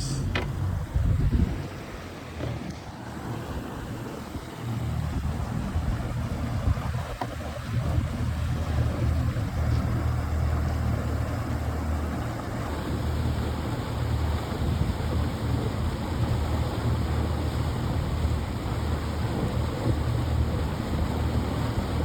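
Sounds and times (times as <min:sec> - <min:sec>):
boat motor running: 0:00.0 - 0:22.0
wind buffeting microphone: 0:00.3 - 0:22.0.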